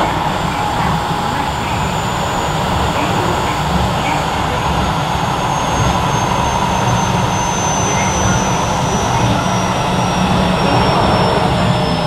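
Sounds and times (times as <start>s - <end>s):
faint high whine falling in pitch: 0.0s - 12.0s
train wheels rumbling on rail: 0.0s - 12.0s.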